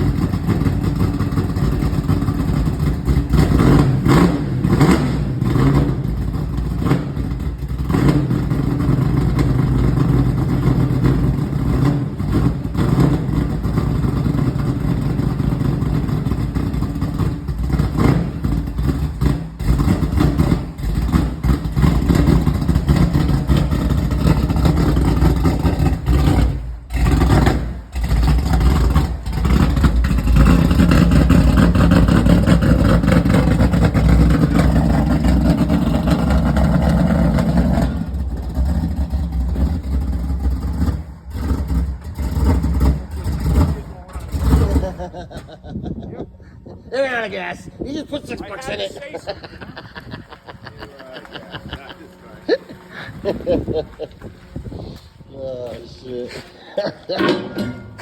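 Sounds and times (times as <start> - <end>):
car engine revving through exhaust: 0.0 - 45.4, 51.3 - 55.2.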